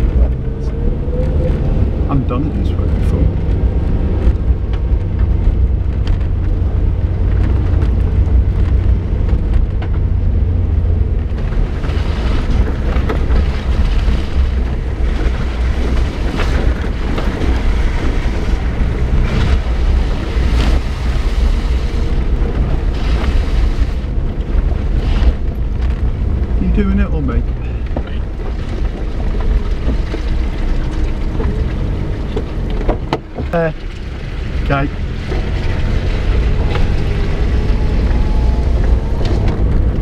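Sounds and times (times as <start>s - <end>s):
car engine and road rumble: 0.0s - 40.0s
car knocks and jolts: 3.0s - 40.0s.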